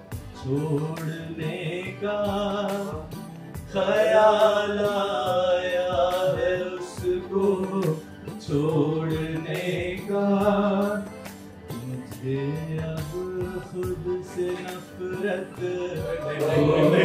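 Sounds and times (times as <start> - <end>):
man singing: 0.2 - 17.0.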